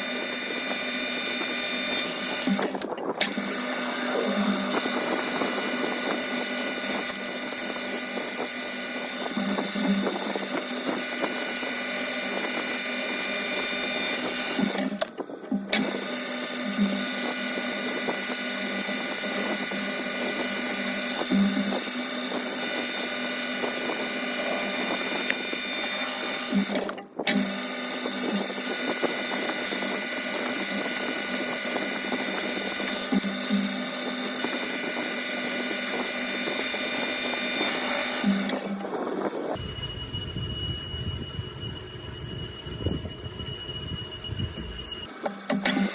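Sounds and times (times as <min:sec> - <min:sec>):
lathe scraping cut: 0:00.0 - 0:45.9
metal lathe whine: 0:00.0 - 0:45.9.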